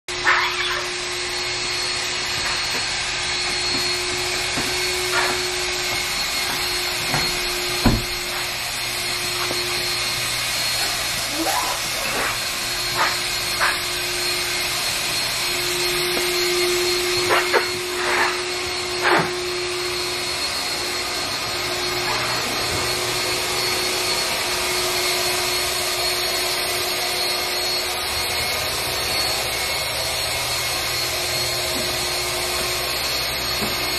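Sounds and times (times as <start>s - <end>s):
vacuum motor droning: 0.1s - 33.9s.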